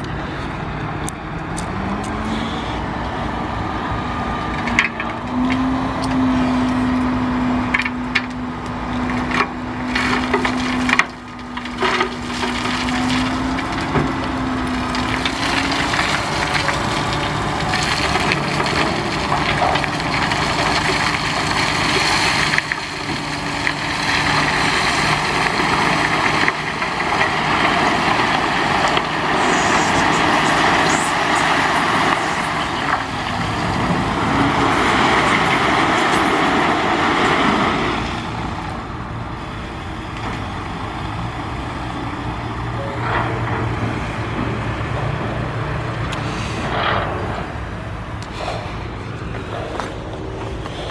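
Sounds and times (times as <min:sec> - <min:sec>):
truck engine running: 0:05.9 - 0:50.9.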